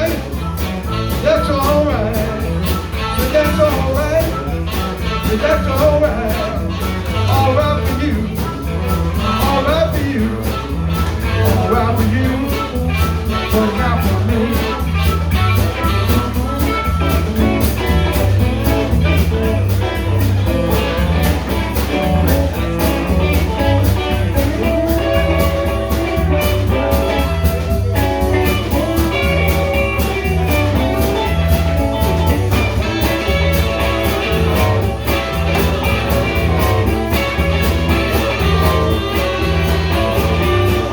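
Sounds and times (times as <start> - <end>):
bass line: 0.0 - 40.9
drums keeping a steady beat: 0.0 - 40.9
electric guitar: 0.0 - 40.9.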